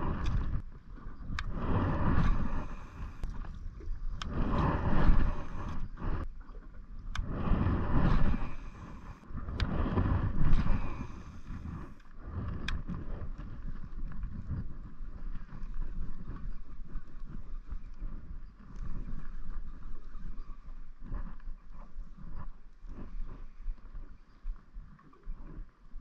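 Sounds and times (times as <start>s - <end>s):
wind buffeting microphone: 0.0s - 6.4s, 7.0s - 24.0s.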